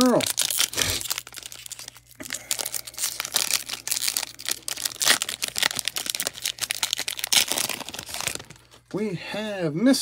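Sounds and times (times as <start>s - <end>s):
foil wrapper crinkling and tearing: 0.0s - 8.9s
foil wrapper crinkling: 0.0s - 9.0s.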